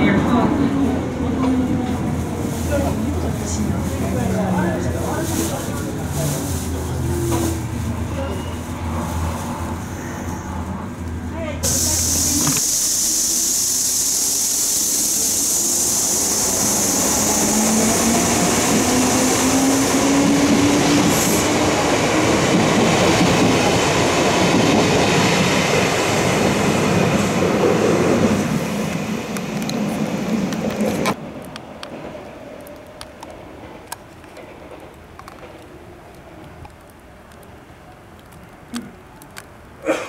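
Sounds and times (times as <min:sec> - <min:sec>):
train rumble and rail noise: 0:00.0 - 0:40.0.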